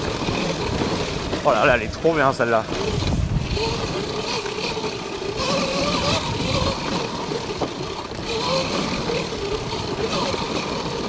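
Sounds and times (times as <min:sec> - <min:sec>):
bike rumbling over bumpy trail: 0:00.0 - 0:11.0
electric motor whining: 0:00.0 - 0:11.0.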